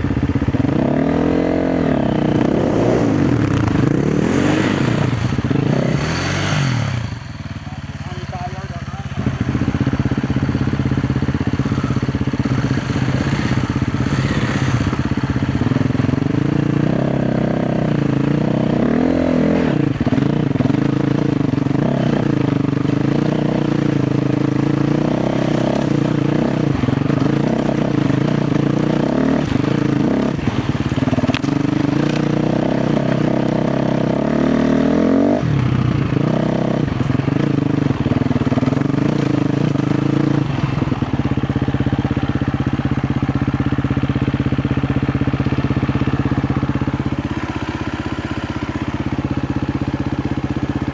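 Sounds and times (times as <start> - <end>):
motorcycle engine revving under load: 0.0 - 50.9.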